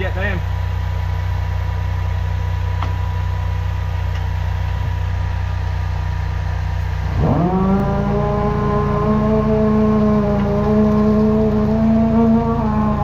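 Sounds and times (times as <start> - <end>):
drain jetter engine idling and revving: 0.0 - 13.0.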